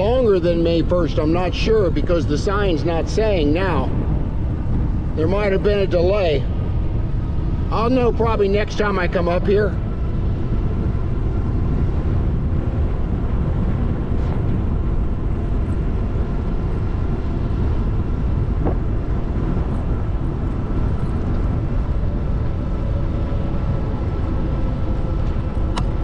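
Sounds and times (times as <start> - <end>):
faint steady whine: 0.0 - 26.0
wind rush on microphone: 0.0 - 26.0
bicycle tyre and drivetrain noise: 3.6 - 26.0.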